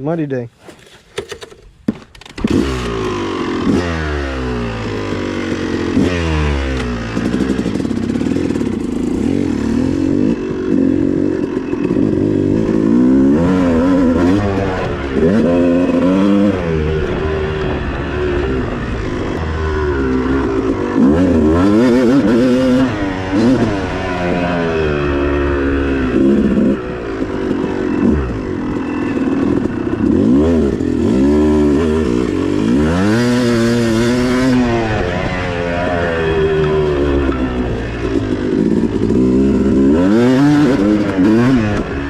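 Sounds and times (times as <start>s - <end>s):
motocross bike engine revving: 2.3s - 42.0s.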